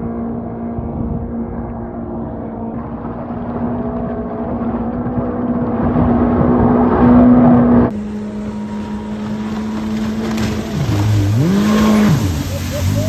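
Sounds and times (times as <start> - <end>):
jet boat engine droning: 0.0 - 13.0.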